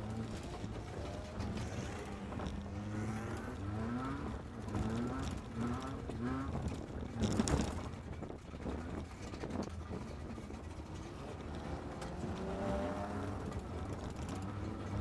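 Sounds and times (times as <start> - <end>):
car engine revving: 0.0 - 8.0, 10.8 - 15.0.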